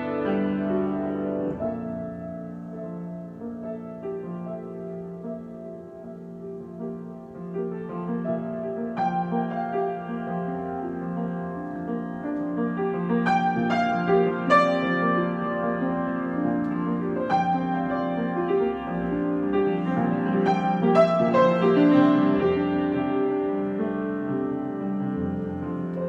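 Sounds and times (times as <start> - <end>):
solo piano: 0.0 - 26.0.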